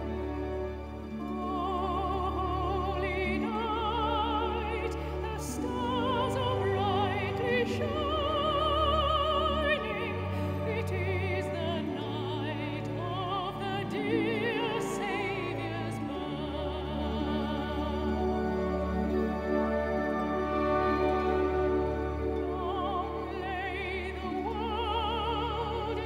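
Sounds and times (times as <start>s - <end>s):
soprano singing operatically: 0.0s - 26.0s
string orchestra: 0.0s - 26.0s.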